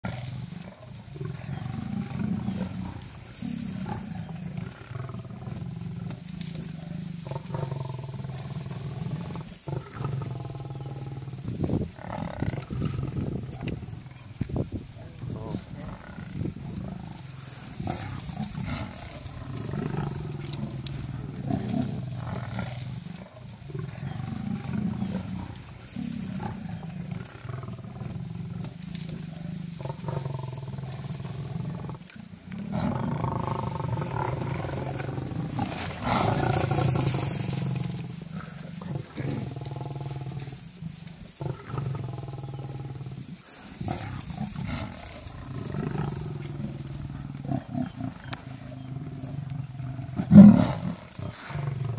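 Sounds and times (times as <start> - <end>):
lionesses growling: 0.0 - 51.9.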